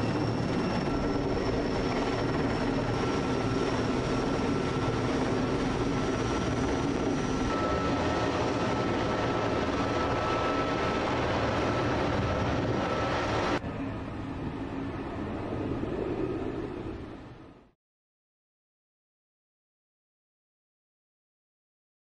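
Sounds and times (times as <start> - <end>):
helicopter rotor and turbine drone: 0.0 - 17.8.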